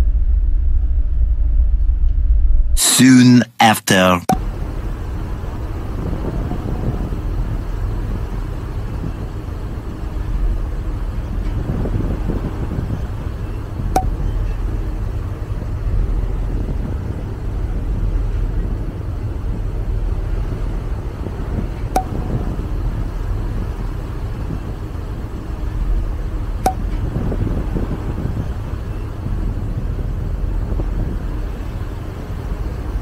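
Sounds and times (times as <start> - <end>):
ferry engines rumbling: 4.3 - 33.0
wind: 4.3 - 33.0.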